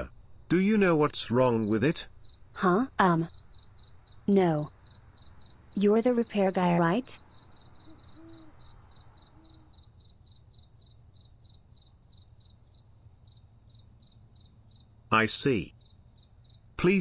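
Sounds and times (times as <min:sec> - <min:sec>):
faint cricket chirping: 0:00.0 - 0:17.0.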